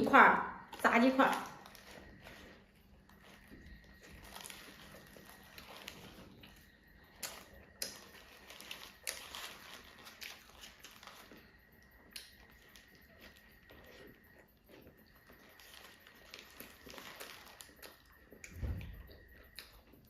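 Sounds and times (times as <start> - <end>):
rustling food packaging: 0.1 - 20.0.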